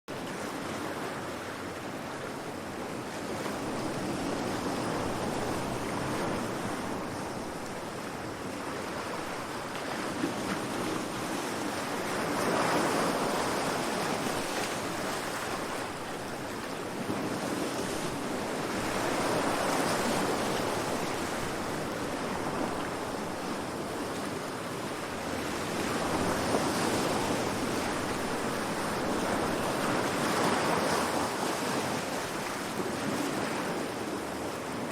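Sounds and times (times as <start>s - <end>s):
sea waves washing in: 0.2s - 34.9s.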